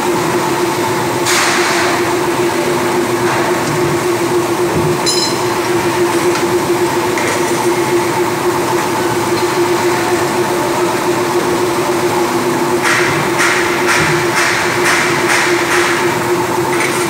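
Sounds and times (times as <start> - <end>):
loud machine hum: 0.0 - 17.0.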